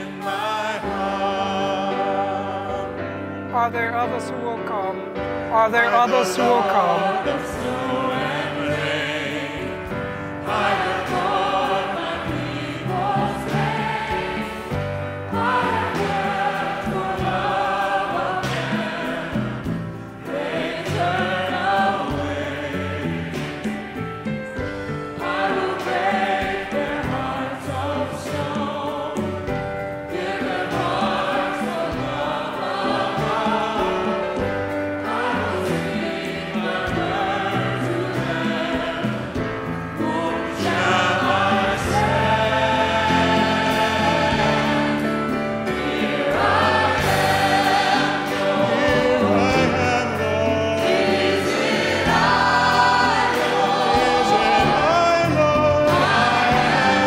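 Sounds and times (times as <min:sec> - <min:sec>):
congregation and choir singing hymn: 0:00.0 - 0:57.0.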